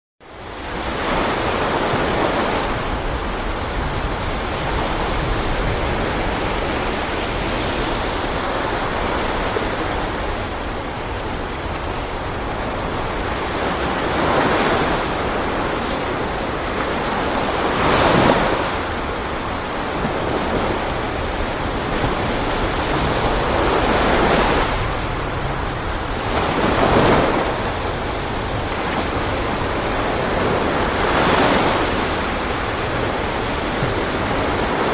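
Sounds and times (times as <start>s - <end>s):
sea waves washing: 0.3s - 34.9s.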